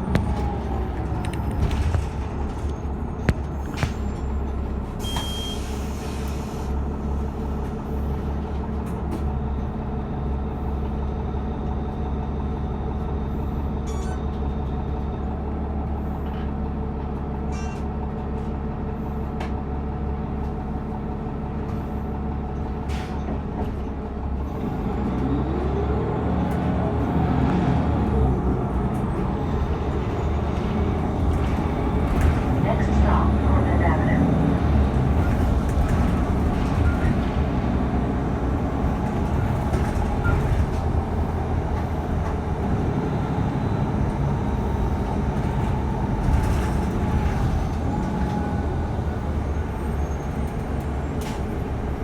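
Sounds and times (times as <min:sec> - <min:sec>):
bus engine droning: 0:00.0 - 0:52.0.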